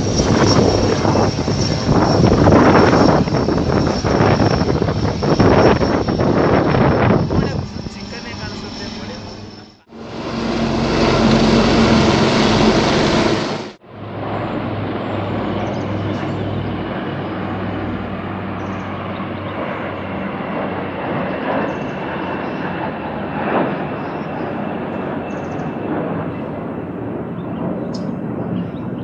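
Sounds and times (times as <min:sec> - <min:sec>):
helicopter engine and rotor: 0:00.0 - 0:29.0.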